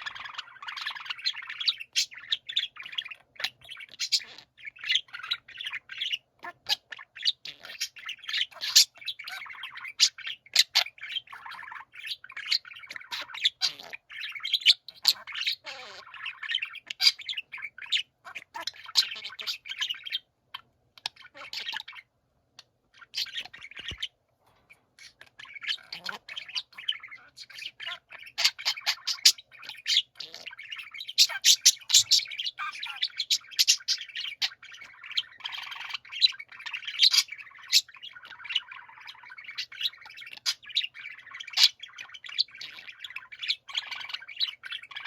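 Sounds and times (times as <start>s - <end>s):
budgerigars chattering: 0.0s - 45.0s.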